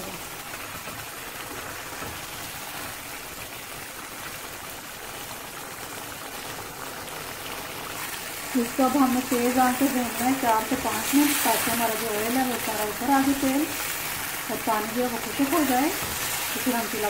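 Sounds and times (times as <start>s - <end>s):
gravy sizzling and bubbling: 0.0s - 17.0s.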